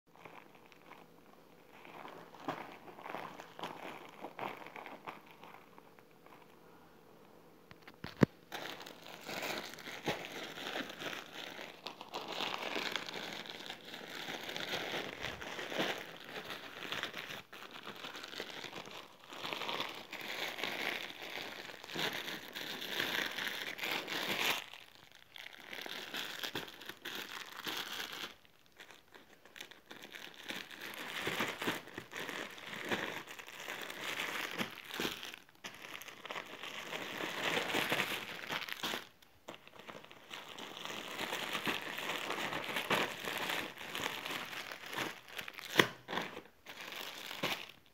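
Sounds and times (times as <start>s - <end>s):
plastic bag crinkling and tearing: 0.1s - 6.6s, 7.8s - 47.9s
plastic packets crinkling: 0.1s - 6.6s, 7.7s - 47.9s.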